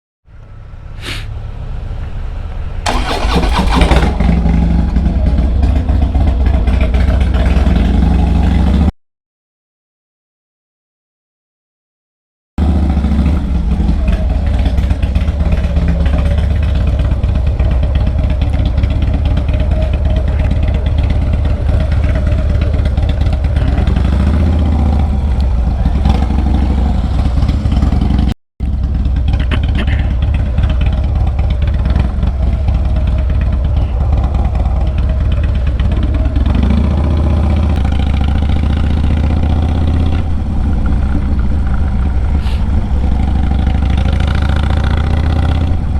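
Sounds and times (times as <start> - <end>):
motorcycle engine riding: 0.3 - 8.9, 12.6 - 45.9.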